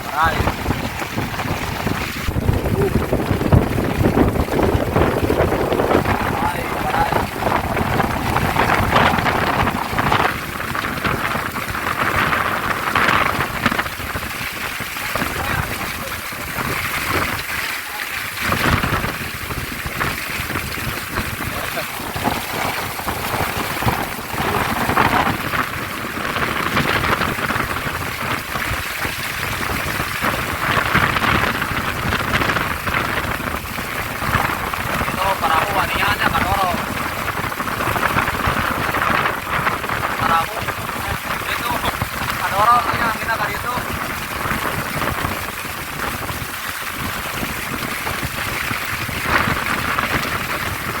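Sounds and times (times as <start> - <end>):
low rumbling wind buffets: 0.0 - 51.0
rain and strong wind rushing: 0.0 - 51.0
rough water: 0.0 - 51.0.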